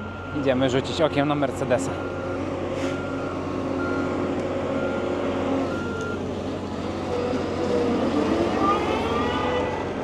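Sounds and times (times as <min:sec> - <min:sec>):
wheel loader diesel engine running: 0:00.0 - 0:10.0.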